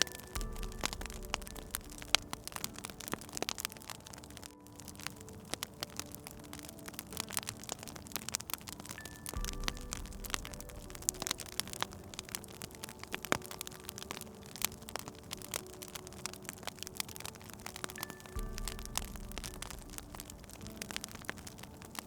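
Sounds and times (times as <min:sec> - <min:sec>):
soft background music: 0:00.0 - 0:22.0
wood fire crackling and popping: 0:00.0 - 0:22.0.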